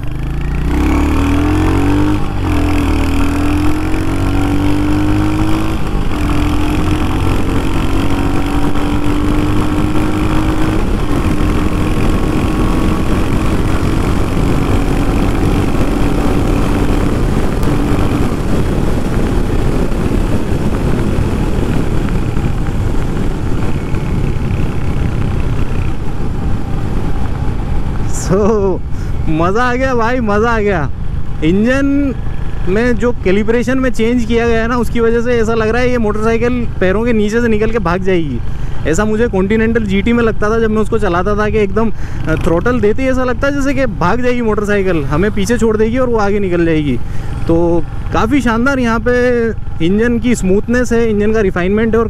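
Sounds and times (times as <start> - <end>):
motorcycle engine revving: 0.0 - 37.4, 39.5 - 50.4
wind noise: 0.0 - 52.0.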